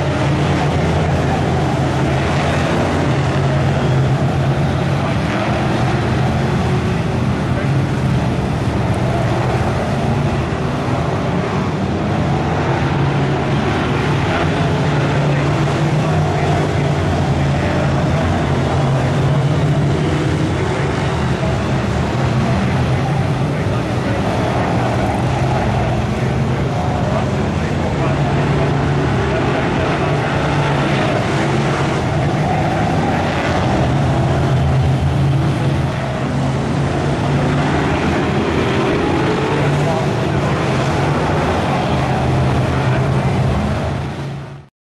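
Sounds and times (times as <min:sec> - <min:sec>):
racing cars engine drone: 0:00.0 - 0:44.7.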